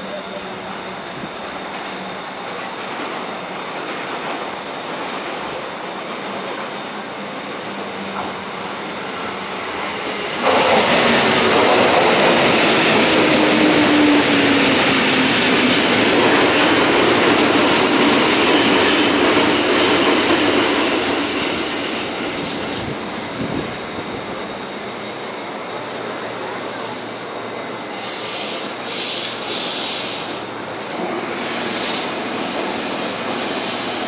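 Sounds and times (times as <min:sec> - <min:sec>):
train wheel and rail noise: 0:00.0 - 0:34.0.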